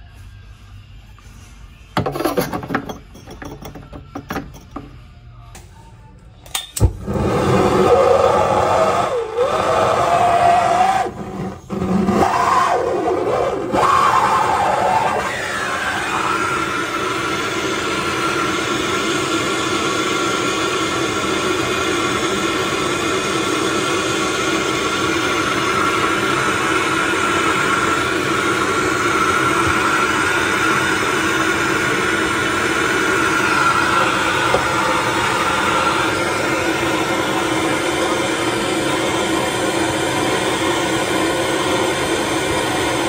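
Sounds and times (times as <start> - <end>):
gas torch flame burning: 6.8 - 43.0.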